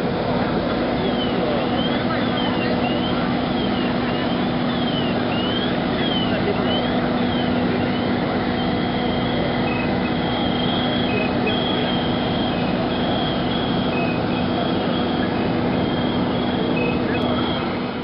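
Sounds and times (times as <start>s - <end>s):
diesel engines running at high revs: 0.0s - 18.0s.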